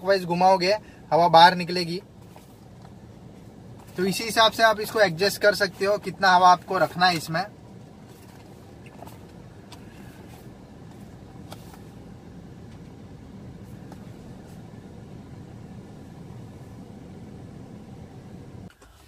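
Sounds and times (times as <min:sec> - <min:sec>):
low vehicle rumble: 0:00.0 - 0:19.0.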